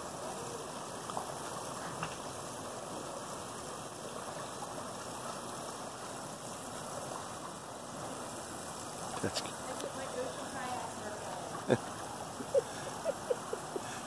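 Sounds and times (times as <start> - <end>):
water rushing around a kayak: 0.0 - 14.0.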